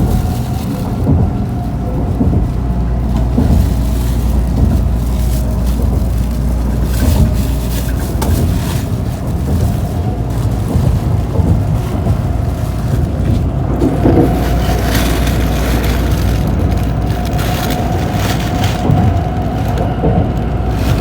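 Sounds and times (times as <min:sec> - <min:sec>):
train running gear rumble: 0:00.0 - 0:21.0.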